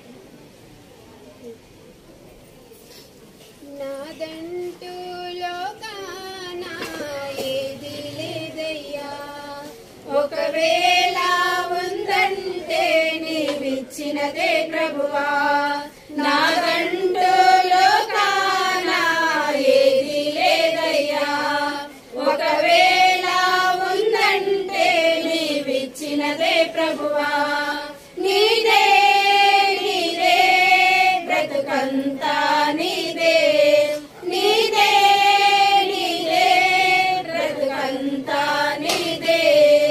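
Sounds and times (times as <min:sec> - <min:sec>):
women singing a hymn in unison: 0:03.6 - 0:39.9.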